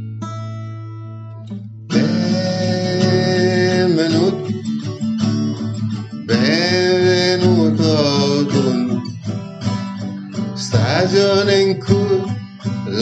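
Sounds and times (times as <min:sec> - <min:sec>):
acoustic guitar chords: 0:00.0 - 0:13.0
sliding melody line: 0:01.9 - 0:13.0.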